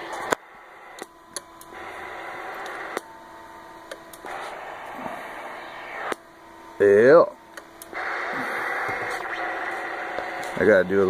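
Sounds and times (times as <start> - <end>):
radio static hiss: 0.0 - 1.0, 1.7 - 3.1, 4.2 - 11.0.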